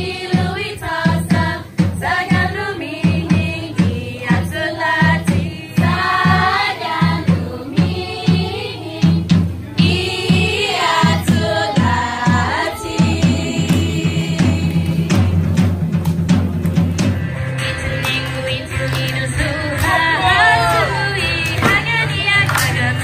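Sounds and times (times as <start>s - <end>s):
group chant-like singing: 0.0s - 15.8s, 19.4s - 23.0s
steady drum beat: 0.0s - 23.0s.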